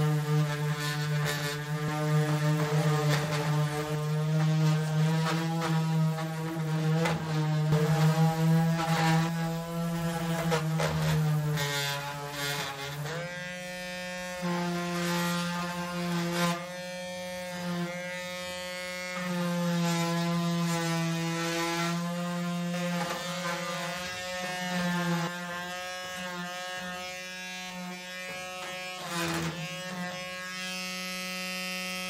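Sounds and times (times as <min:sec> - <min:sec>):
electric sander motor buzz: 0:00.0 - 0:32.0
sanding rasp on metal: 0:00.0 - 0:32.0.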